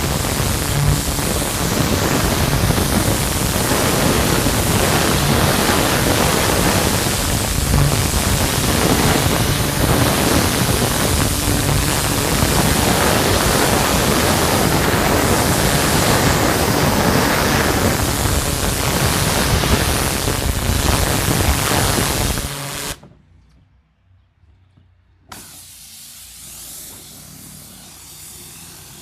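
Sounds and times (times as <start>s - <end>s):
pressure washer water spray: 0.0s - 23.0s, 25.3s - 29.0s.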